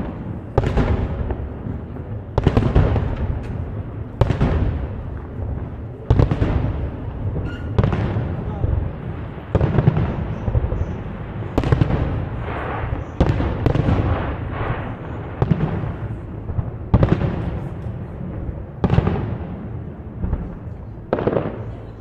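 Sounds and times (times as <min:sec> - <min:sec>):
firework bangs: 0:00.0 - 0:22.0
firework crackling: 0:00.0 - 0:22.0
rolling echo: 0:00.0 - 0:22.0.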